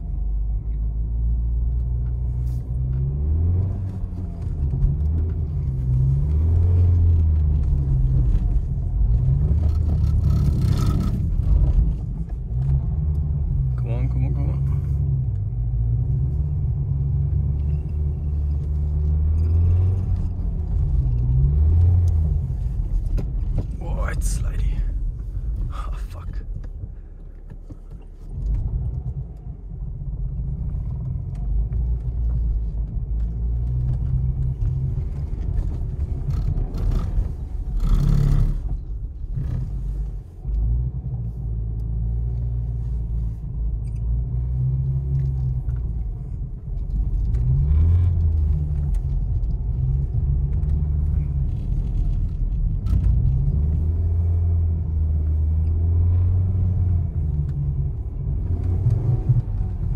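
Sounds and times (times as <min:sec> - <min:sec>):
car engine revving: 0:02.4 - 0:26.2, 0:31.4 - 0:59.9.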